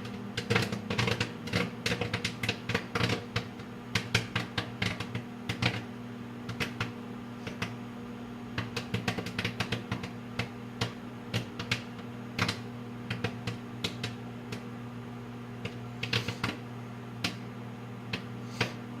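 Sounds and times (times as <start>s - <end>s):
microwave oven humming: 0.0s - 19.0s
popcorn popping: 0.0s - 19.0s.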